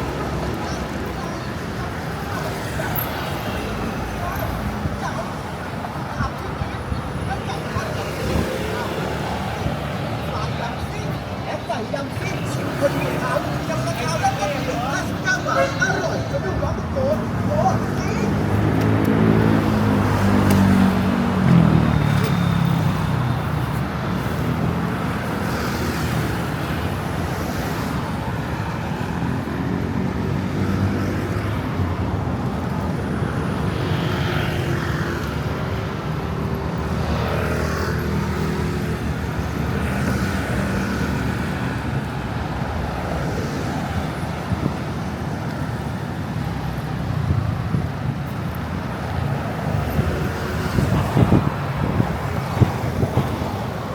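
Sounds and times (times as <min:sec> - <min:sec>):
road traffic: 0:00.0 - 0:53.9.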